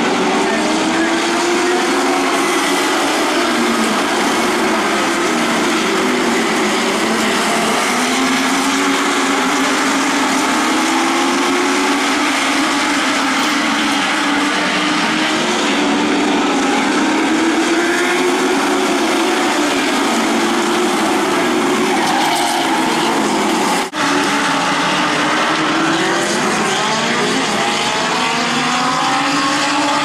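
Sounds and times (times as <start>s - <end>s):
race cars passing at speed: 0.0s - 30.0s.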